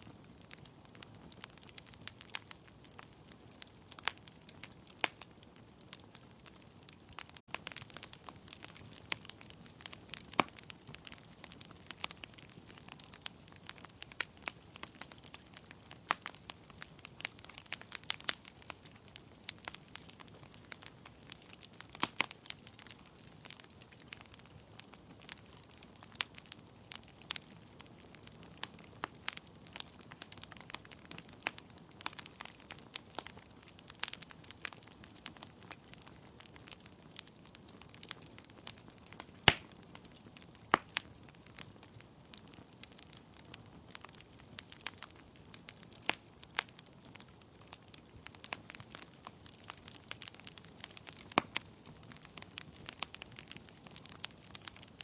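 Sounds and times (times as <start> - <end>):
logs crackling and popping: 0.0 - 55.0.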